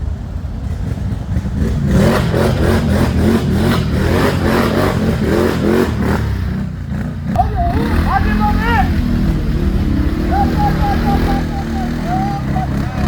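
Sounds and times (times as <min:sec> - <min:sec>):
atv engine revving: 0:00.5 - 0:13.0.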